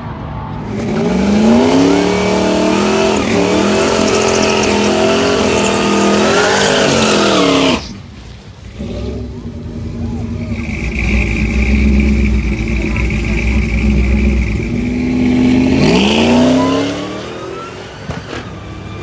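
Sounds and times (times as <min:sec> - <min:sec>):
race truck engine at full throttle: 0:00.0 - 0:19.0.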